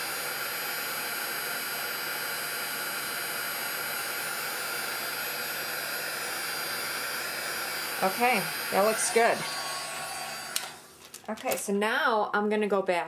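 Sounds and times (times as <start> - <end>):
heat gun blowing air: 0.0 - 11.0.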